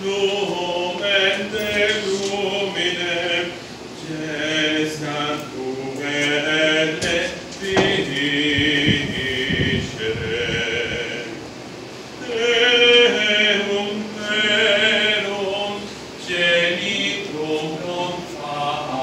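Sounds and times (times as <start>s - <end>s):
male choir singing: 0.0s - 11.5s, 12.2s - 19.0s.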